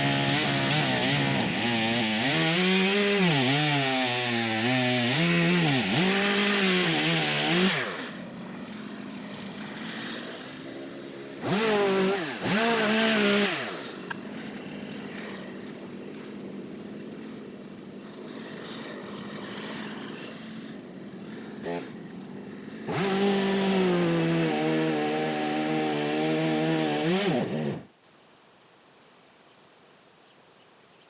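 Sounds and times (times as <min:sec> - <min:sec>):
chainsaw cutting wood: 0:00.0 - 0:27.9
chainsaw idling: 0:00.0 - 0:27.9.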